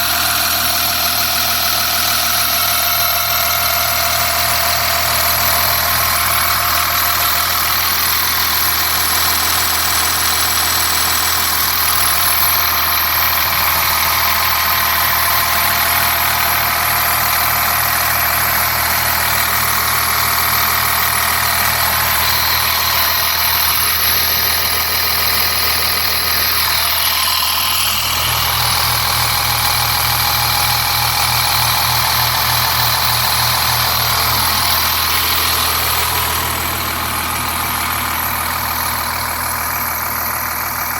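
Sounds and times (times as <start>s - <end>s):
bus engine idling: 0.0s - 40.9s.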